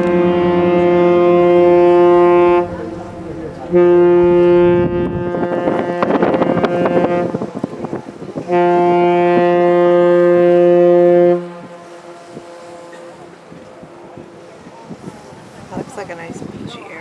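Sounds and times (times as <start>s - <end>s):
ship's horn blasts: 0.0s - 17.0s.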